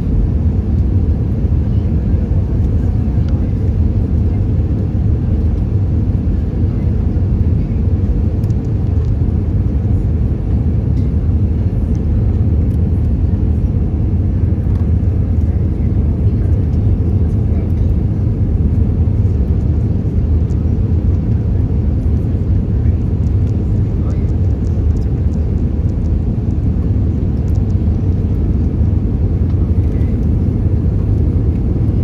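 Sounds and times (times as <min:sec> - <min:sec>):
jet engine and airflow roar: 0:00.0 - 0:32.0.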